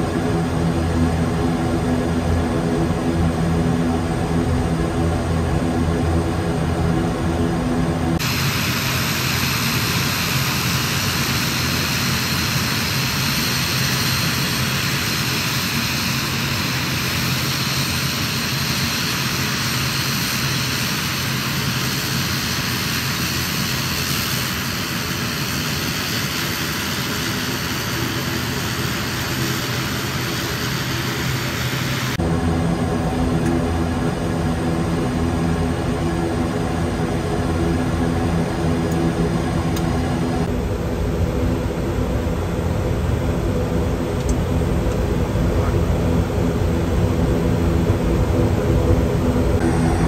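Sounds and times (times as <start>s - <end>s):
airliner engine and air rush: 0.0s - 50.0s.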